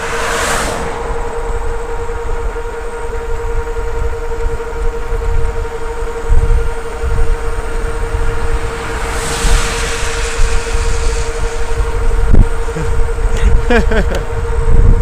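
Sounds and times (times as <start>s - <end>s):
electric motor whine: 0.0s - 14.2s
wind buffeting microphone: 0.0s - 15.0s.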